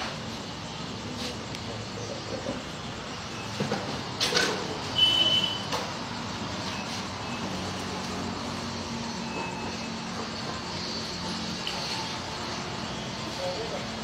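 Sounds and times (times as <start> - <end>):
vehicle traffic: 0.0 - 14.0.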